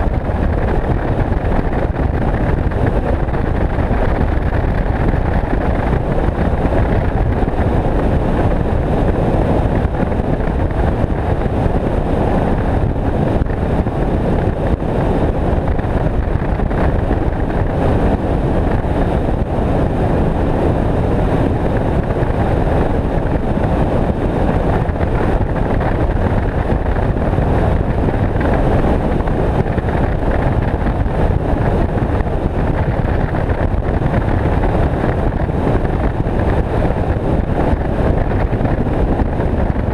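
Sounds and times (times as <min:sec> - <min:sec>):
water under boat: 0:00.0 - 0:20.4, 0:21.0 - 0:39.9
boat motor: 0:00.0 - 0:39.9
wind rushing over microphone: 0:00.0 - 0:39.9.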